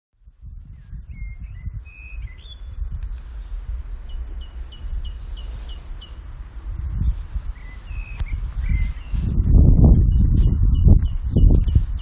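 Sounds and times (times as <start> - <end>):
low rumble: 0.2 - 12.0
songbird singing: 0.2 - 12.0.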